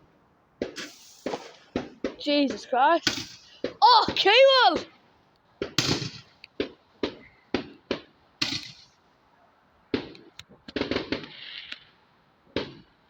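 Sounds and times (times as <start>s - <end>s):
fireworks bangs: 0.6s - 5.0s, 5.6s - 9.0s, 9.9s - 13.0s.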